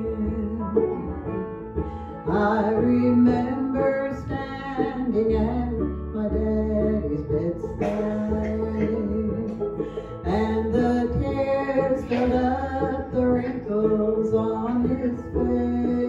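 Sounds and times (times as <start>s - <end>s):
woman singing gospel song: 0.0s - 0.8s, 2.3s - 9.5s, 10.3s - 16.0s
instrumental accompaniment: 0.0s - 16.0s.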